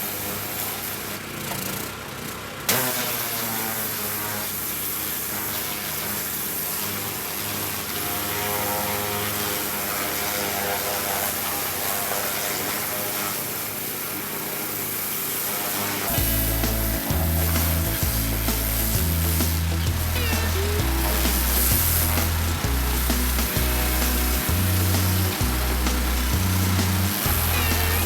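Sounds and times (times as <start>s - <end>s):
hissing water spray: 0.0s - 2.0s, 2.7s - 28.0s
pressure washer motor hum: 0.0s - 28.0s.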